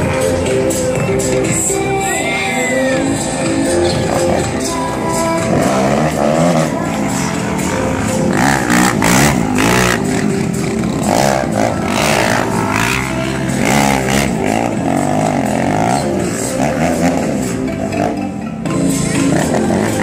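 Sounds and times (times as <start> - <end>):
motorcycle engine revving: 3.0 - 20.0.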